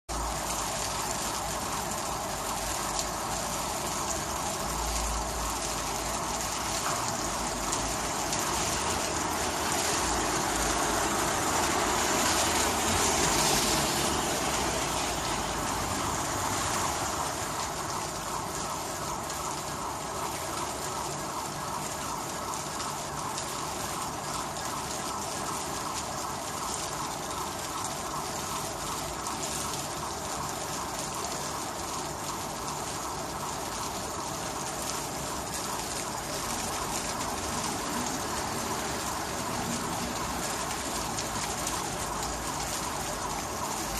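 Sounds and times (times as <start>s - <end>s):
heavy rain falling: 0.1s - 43.9s.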